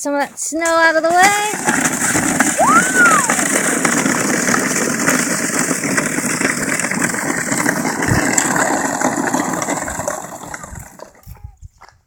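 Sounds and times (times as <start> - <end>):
plastic toy scraping on snow: 0.1 - 11.4.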